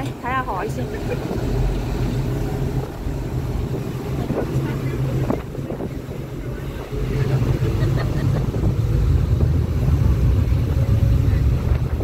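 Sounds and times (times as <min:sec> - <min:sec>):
ferry engines rumbling: 0:00.0 - 0:12.0.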